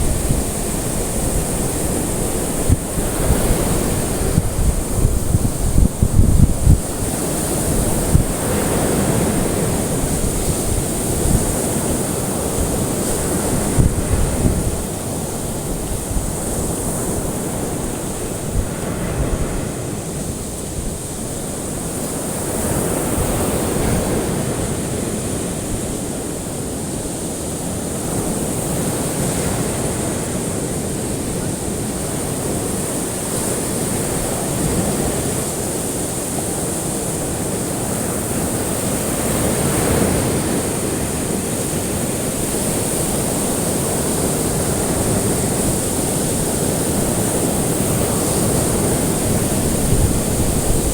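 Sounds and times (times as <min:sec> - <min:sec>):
ocean waves washing on shore: 0:00.0 - 0:50.9.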